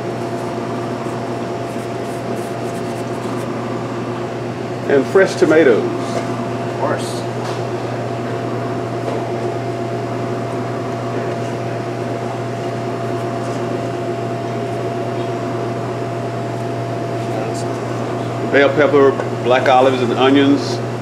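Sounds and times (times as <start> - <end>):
kitchen machinery low drone: 0.0 - 21.0.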